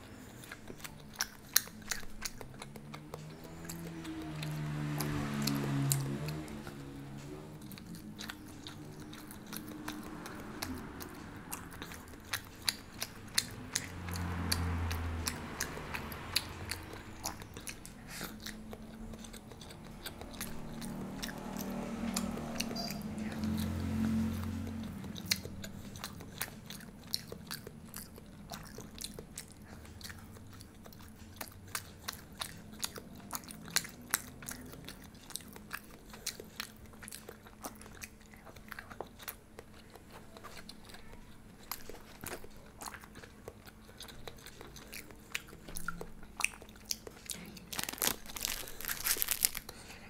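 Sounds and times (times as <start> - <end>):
chewing and crunching: 0.0 - 50.0.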